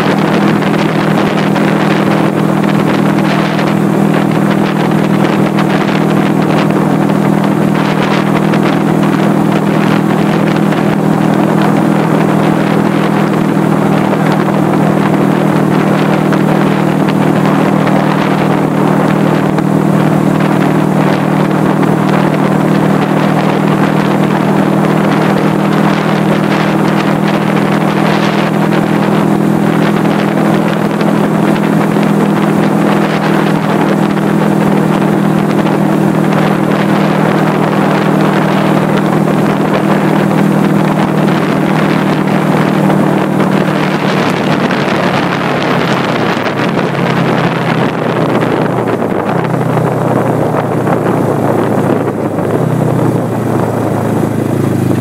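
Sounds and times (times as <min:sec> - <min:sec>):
motorcycle engine cruising: 0:00.0 - 0:55.0
wind rush over microphone: 0:00.0 - 0:55.0.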